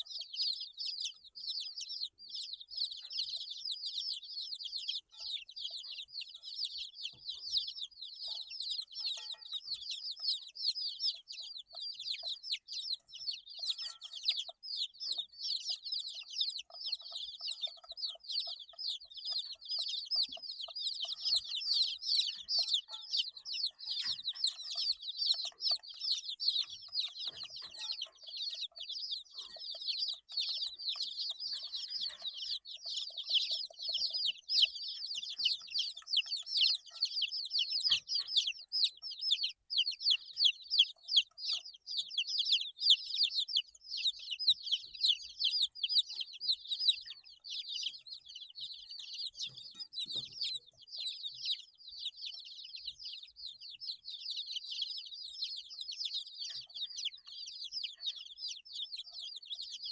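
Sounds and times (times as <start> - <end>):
baby chicks peeping: 0.0 - 59.9
lower softer chick calls: 0.0 - 59.9.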